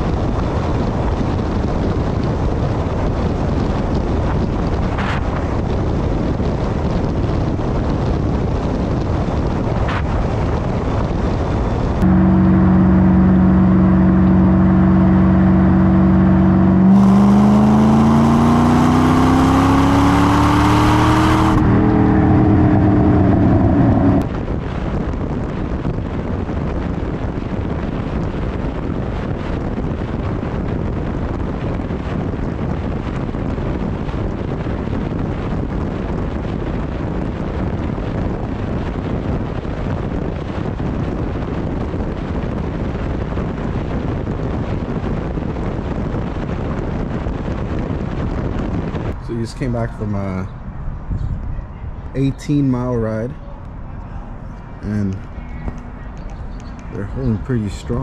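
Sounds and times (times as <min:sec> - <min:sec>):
wind and road noise: 0:00.0 - 0:58.0
car exhaust rumbling: 0:08.3 - 0:58.0.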